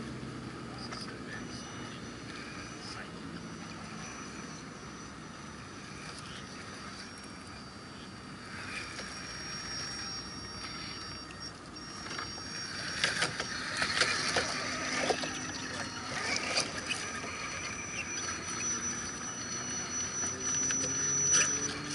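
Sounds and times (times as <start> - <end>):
toy truck motor whining: 0.0 - 21.9.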